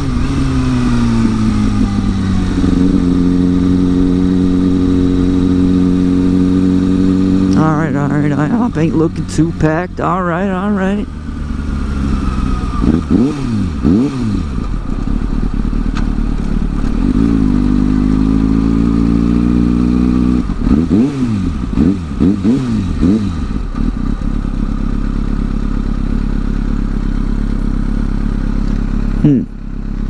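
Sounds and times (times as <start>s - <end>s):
motorcycle engine idling: 0.0s - 20.8s, 21.5s - 30.0s
motorcycle engine revving: 0.0s - 30.0s.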